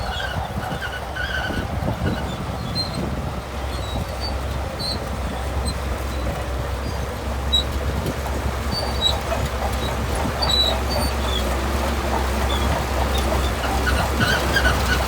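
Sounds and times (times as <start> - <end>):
bulldozer diesel engine rumbling: 0.0 - 15.0.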